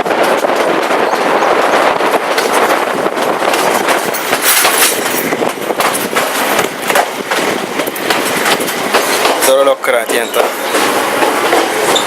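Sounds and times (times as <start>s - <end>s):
train rattling: 0.0s - 12.0s
wheels clicking over rails: 0.0s - 12.0s.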